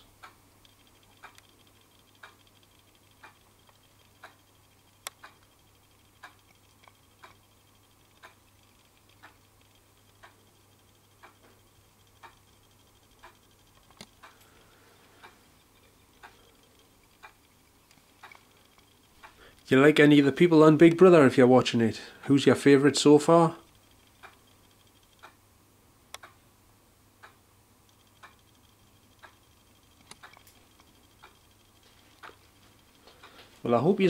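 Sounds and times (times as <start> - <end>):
clock ticking: 0.0 - 22.8, 23.4 - 25.4, 26.1 - 26.4, 27.2 - 34.0
faint steady hum: 0.0 - 34.0.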